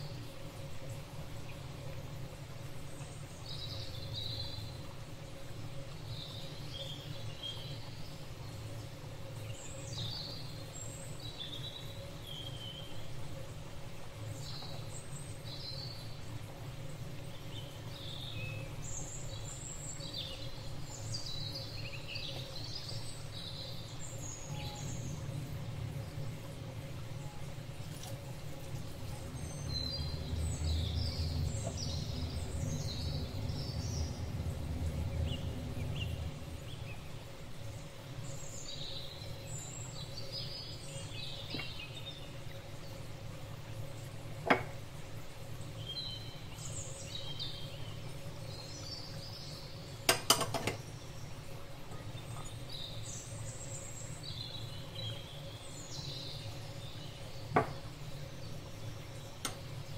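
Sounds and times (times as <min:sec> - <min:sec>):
steady low hum: 0:00.0 - 0:50.2
small birds chirping: 0:00.0 - 0:59.9.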